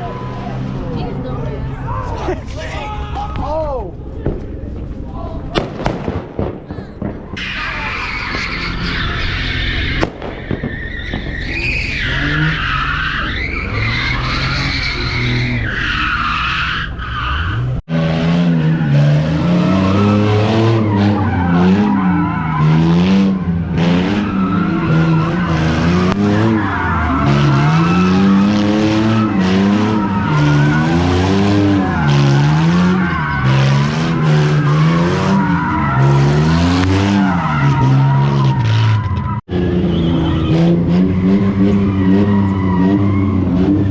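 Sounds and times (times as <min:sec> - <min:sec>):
car tyres squealing: 0:00.0 - 0:06.0, 0:07.0 - 0:43.9
car engine revving: 0:07.1 - 0:43.9.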